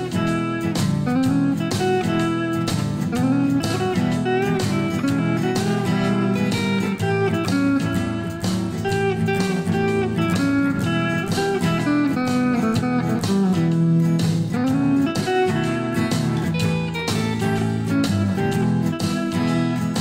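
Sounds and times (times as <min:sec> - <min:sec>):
blues-rock band playing: 0:00.0 - 0:20.0
guitar lead with sliding notes: 0:00.0 - 0:20.0.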